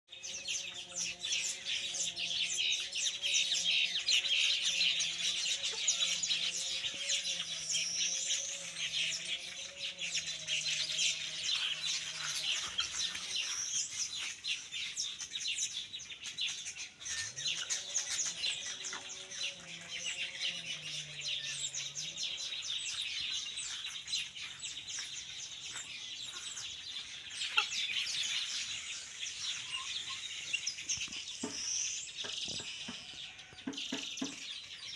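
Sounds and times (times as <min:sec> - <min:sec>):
bird colony chattering: 0:00.2 - 0:34.9.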